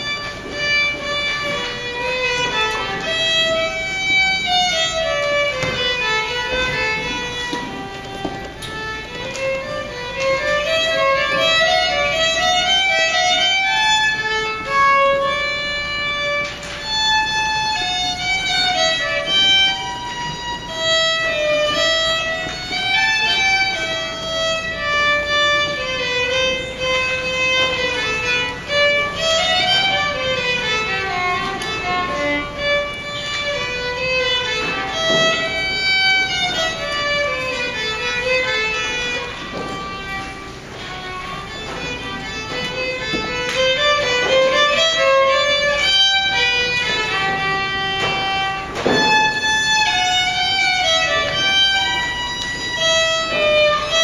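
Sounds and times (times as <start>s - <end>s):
bowed violin melody: 0.0s - 54.0s.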